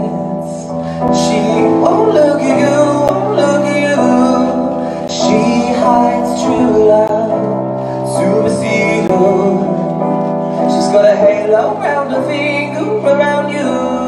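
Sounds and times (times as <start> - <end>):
electronic keyboard piano chords: 0.0 - 14.0
person singing into a microphone: 0.0 - 14.0.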